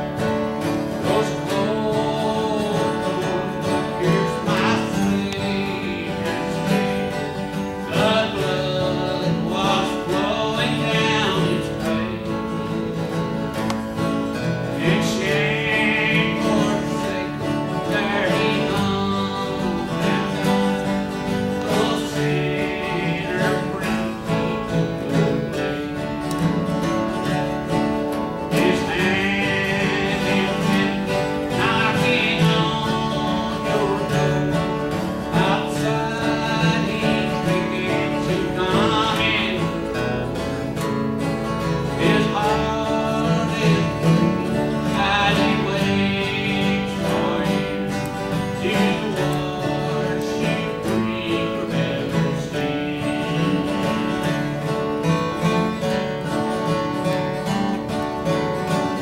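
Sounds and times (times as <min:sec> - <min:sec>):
man singing: 0:00.0 - 0:57.7
acoustic guitar: 0:00.0 - 0:59.0.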